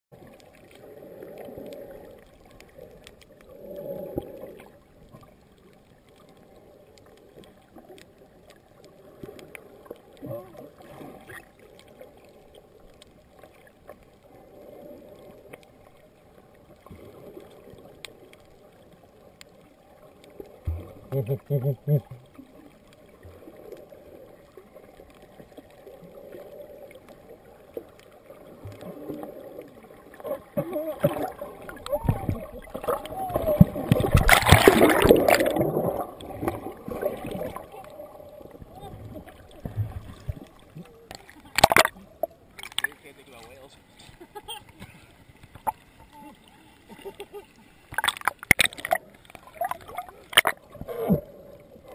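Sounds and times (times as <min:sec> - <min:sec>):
muffled underwater sound: 0:00.1 - 0:51.9.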